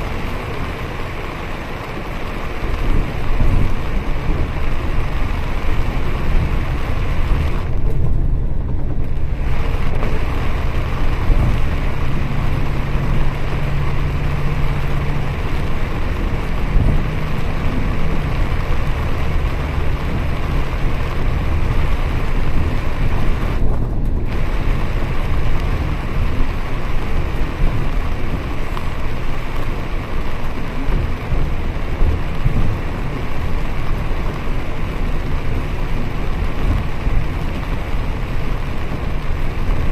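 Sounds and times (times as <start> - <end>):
bus engine and road rumble: 0.0 - 39.9
rain hissing on bus windows: 0.0 - 39.9.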